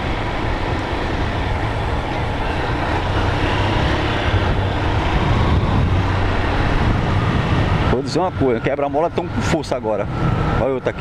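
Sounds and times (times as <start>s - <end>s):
motorcycle engine running: 0.0s - 11.0s
road noise: 0.0s - 11.0s
wind noise: 0.0s - 11.0s.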